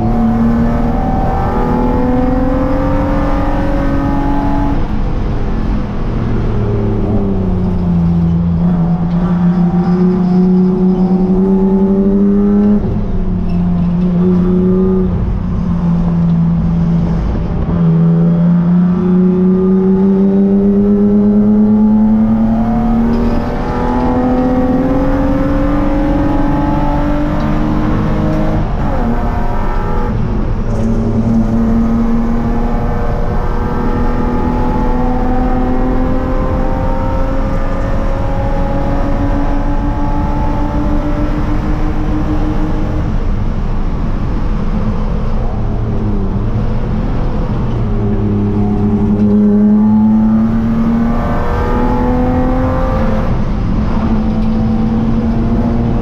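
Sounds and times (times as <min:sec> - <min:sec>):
race car engine under load: 0:00.0 - 0:56.0.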